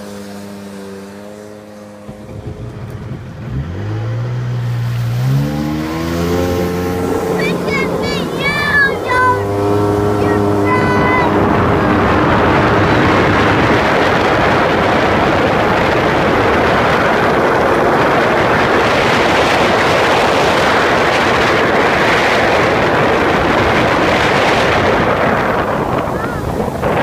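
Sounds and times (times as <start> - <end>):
personal watercraft running: 0.0 - 27.0
wind on microphone: 1.2 - 27.0.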